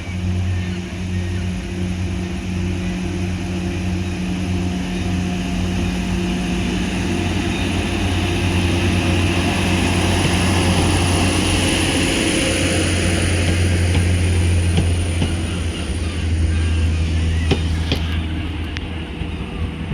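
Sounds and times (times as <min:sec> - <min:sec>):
diesel engine droning: 0:00.0 - 0:19.9.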